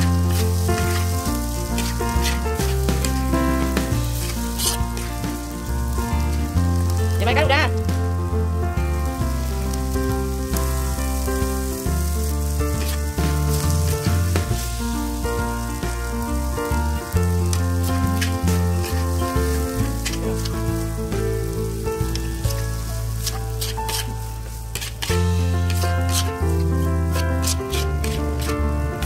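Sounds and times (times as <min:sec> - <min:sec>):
metal spatula scraping a pan: 0:00.0 - 0:07.5, 0:10.5 - 0:29.0
instrumental music: 0:00.0 - 0:29.0
noodles sizzling in a hot pan: 0:00.0 - 0:29.0.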